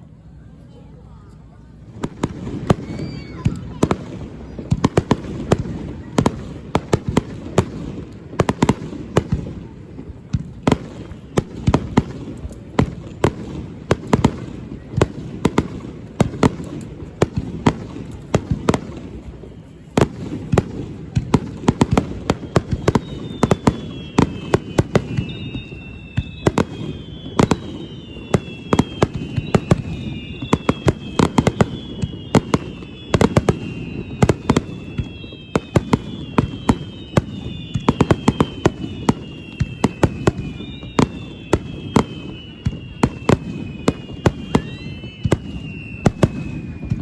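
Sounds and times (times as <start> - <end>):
fireworks whistles gliding down: 1.4 - 47.0
fireworks bangs: 1.6 - 47.0.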